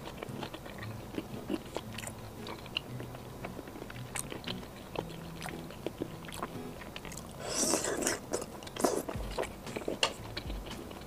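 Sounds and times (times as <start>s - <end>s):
wet chewing mouth clicks: 0.0s - 11.0s.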